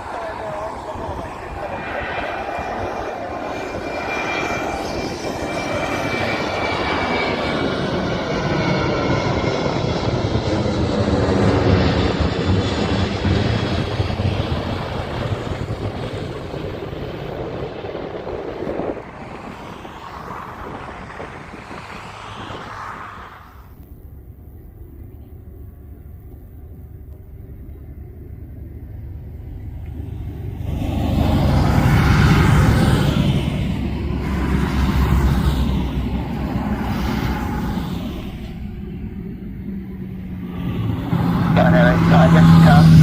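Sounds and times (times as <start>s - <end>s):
aircraft engines passing: 0.0s - 43.0s.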